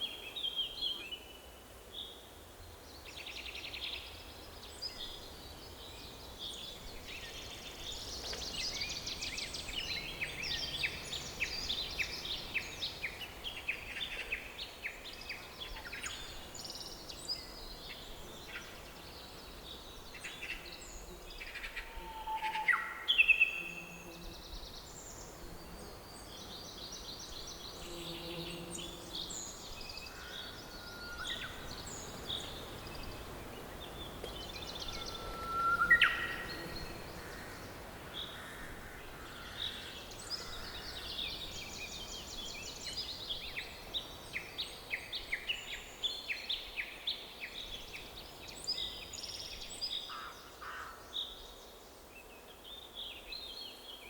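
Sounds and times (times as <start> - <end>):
faint steady hiss: 0.0 - 54.0
songbirds singing and chirping: 0.0 - 54.0.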